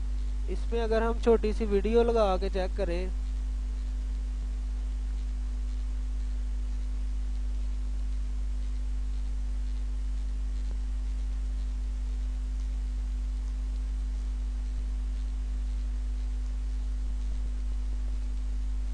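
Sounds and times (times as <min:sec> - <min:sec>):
electrical mains hum: 0:00.0 - 0:18.9.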